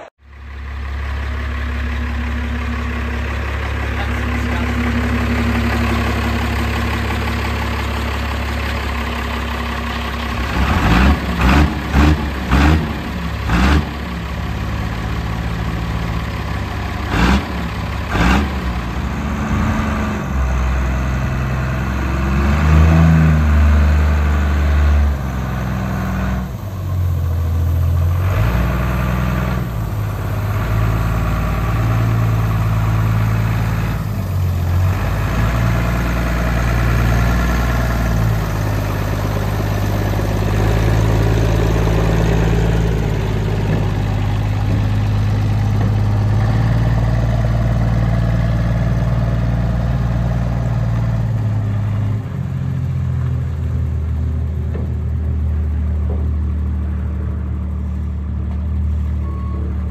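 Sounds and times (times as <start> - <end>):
truck diesel engine pulling away: 0.0 - 59.9.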